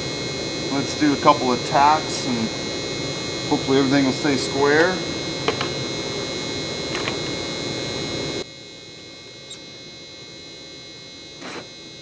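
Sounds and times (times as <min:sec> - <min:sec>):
welding arc buzzing: 0:00.0 - 0:12.0.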